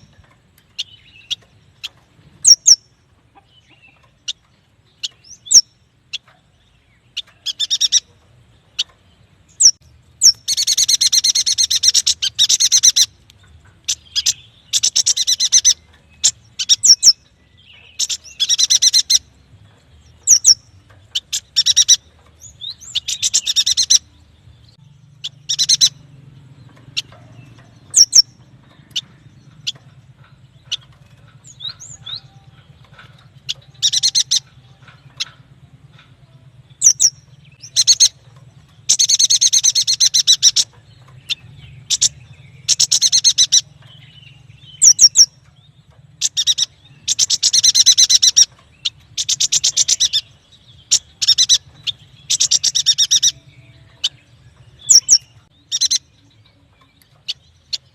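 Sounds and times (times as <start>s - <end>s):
bird chips and chattering: 0.0s - 24.1s, 24.7s - 26.1s, 26.7s - 57.9s.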